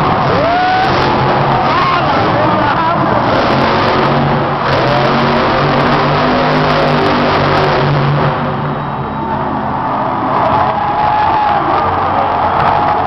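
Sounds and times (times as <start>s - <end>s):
truck engine revving loud: 0.0s - 13.0s.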